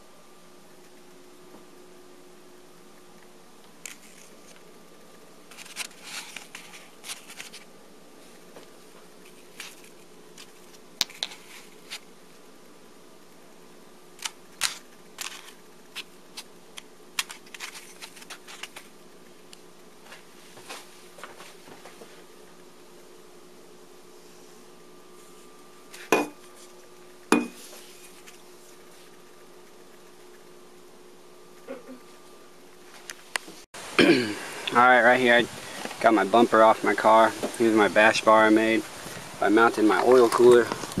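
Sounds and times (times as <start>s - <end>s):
faint hum: 0.0s - 41.0s.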